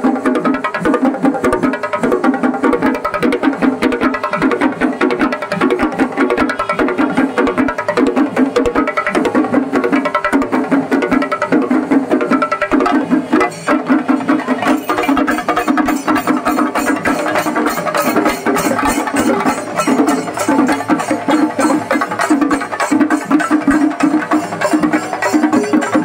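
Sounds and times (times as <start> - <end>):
fast dense drumming: 0.0 - 26.0.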